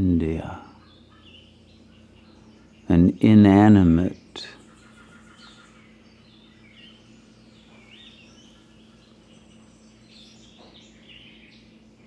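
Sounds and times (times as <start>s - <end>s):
faint birds chirping: 0.0s - 12.0s
steady low hum: 0.0s - 12.0s.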